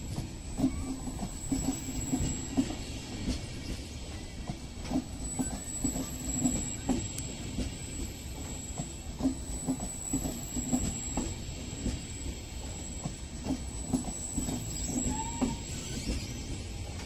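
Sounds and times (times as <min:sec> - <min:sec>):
train rolling rumble: 0:00.0 - 0:17.0
train wheels clattering over joints: 0:00.0 - 0:17.0.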